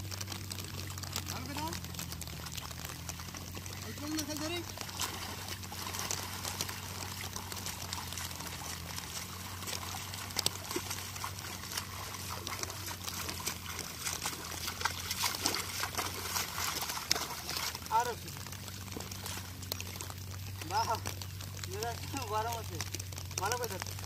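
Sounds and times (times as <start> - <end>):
muddy water sloshing and splashing: 0.0 - 24.0.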